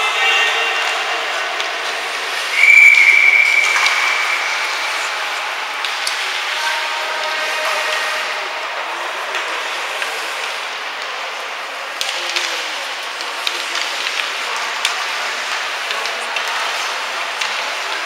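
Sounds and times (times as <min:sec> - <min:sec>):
hockey sticks and puck clacking: 0:00.0 - 0:18.0.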